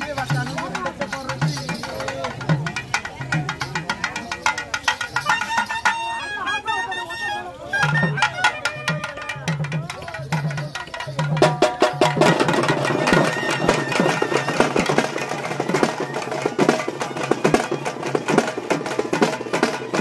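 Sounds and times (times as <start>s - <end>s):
large stick-beaten drum: 0.0s - 6.0s, 7.8s - 20.0s
barrel drums fast rhythm: 0.0s - 6.4s, 7.7s - 20.0s.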